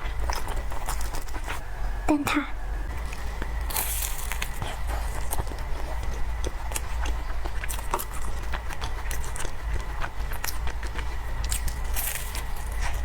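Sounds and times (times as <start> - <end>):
chewing with crunches and mouth clicks: 0.0 - 1.7, 2.9 - 13.0
steady low hum: 0.0 - 13.0.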